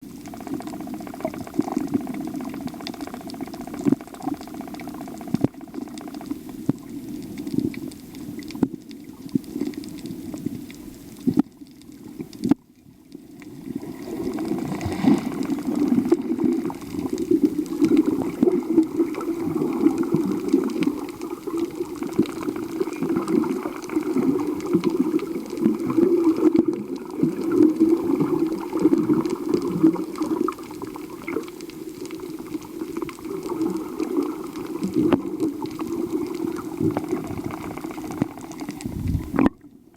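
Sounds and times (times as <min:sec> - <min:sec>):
muffled underwater bubbling: 0:00.0 - 0:39.9.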